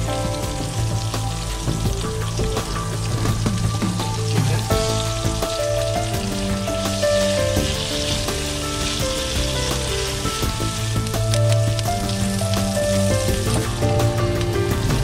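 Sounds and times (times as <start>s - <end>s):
leaves and garlic sizzling in oil: 0.0s - 15.0s
slow background music: 0.0s - 15.0s.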